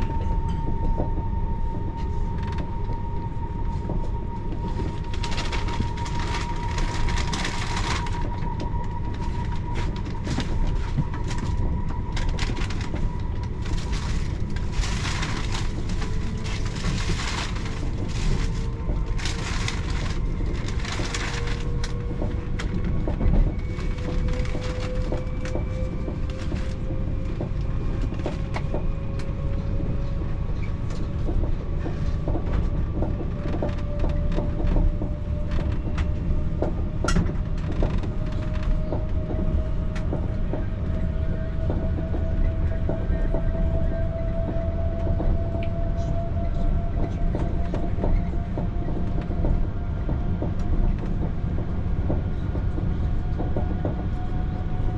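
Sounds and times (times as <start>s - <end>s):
rising train whine: 0.0s - 54.9s
train rumbling on rails: 0.0s - 54.9s.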